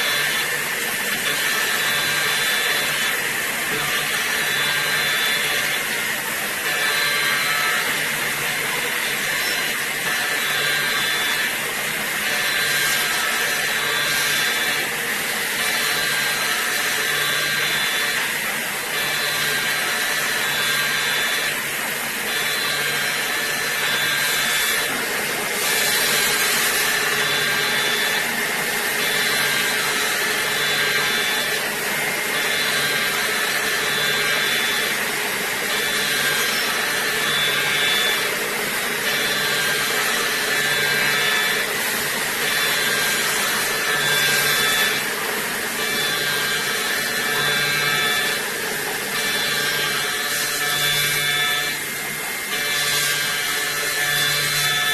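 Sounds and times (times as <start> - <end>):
milling machine cutting hiss: 0.0 - 54.9.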